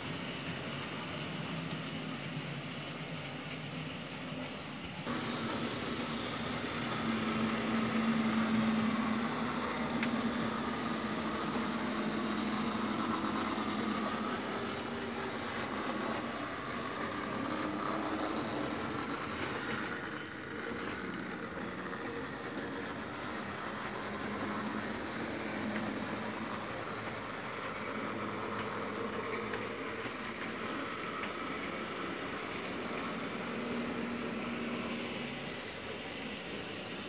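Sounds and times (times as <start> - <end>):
model train motor whirr: 0.0 - 37.0.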